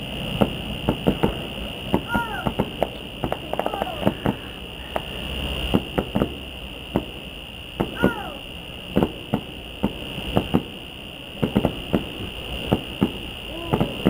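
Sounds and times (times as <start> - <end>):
distant fireworks bangs: 0.0 - 14.0
high-pitched whine: 0.0 - 14.0.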